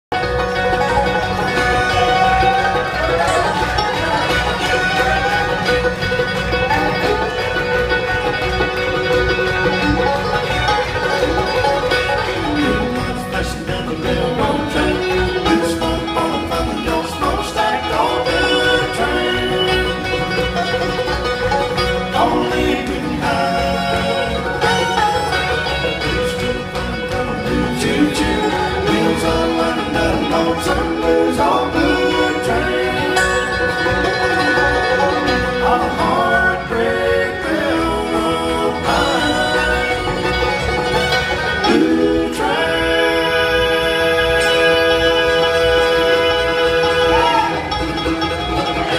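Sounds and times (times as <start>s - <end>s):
bass: 0.0s - 48.9s
acoustic guitars: 0.1s - 48.9s
banjo: 0.1s - 48.9s
bluegrass band playing: 0.1s - 48.9s
dobro: 0.1s - 48.9s
fiddle: 0.1s - 48.9s
mandolin: 0.1s - 48.9s.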